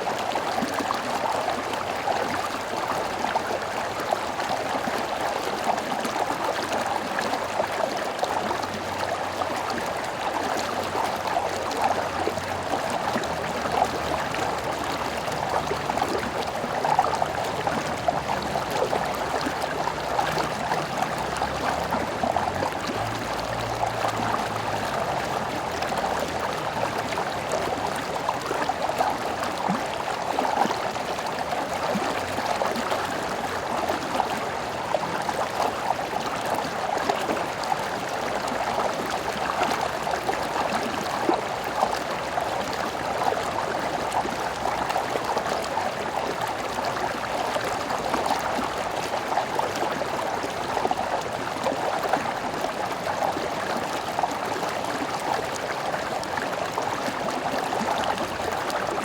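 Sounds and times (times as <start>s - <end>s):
stream water running over stones: 0.0s - 59.0s.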